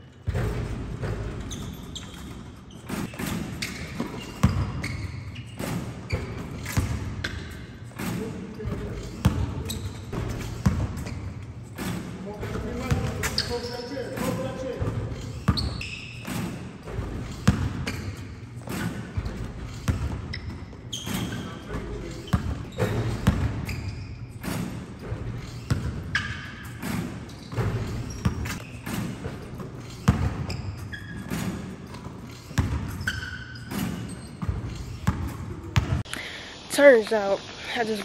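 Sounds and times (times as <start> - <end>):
basketballs bouncing on hardwood floor: 0.2 - 36.0.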